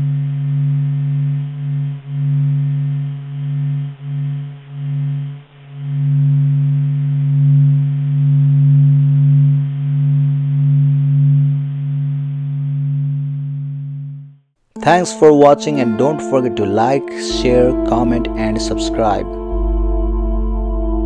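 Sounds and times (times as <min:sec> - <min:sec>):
low pulsing hum: 0:00.0 - 0:14.4, 0:17.3 - 0:21.0.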